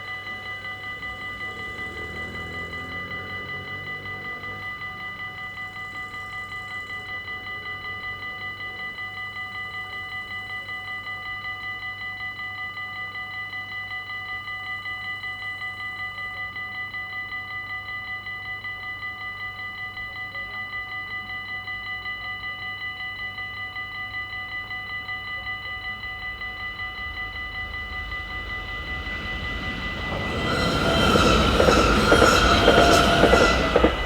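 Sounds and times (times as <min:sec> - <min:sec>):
railroad crossing bell ringing: 0:00.0 - 0:34.0.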